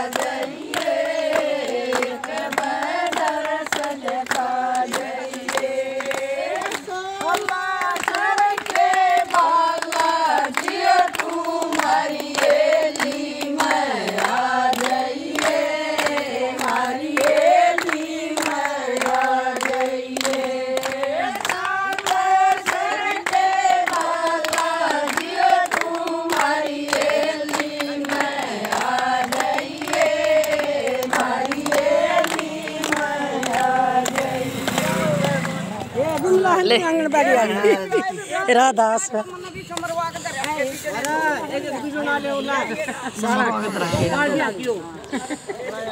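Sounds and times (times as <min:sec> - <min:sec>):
hand-clapping: 0:00.0 - 0:36.4, 0:39.2 - 0:41.4
women singing devotional song: 0:00.0 - 0:45.9.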